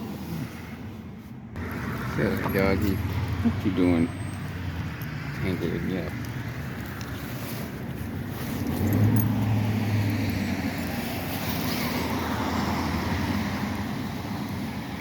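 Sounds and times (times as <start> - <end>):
car passing by: 1.6 - 15.0.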